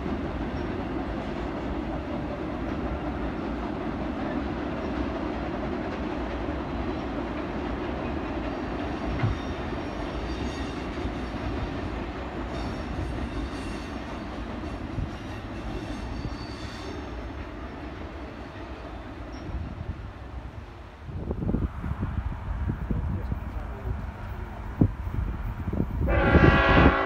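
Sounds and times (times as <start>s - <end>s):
train wheels rumbling on bridge: 0.0s - 27.0s.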